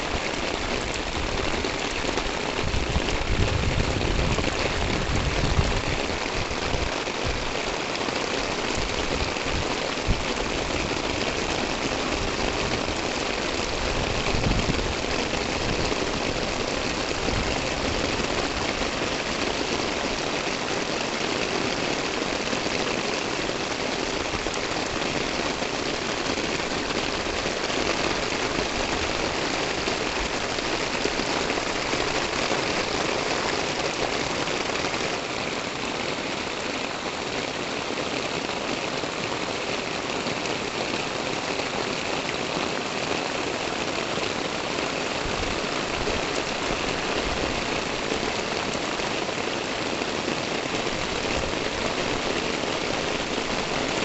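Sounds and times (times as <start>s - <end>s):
rain falling on roofs and pavement: 0.0s - 54.0s.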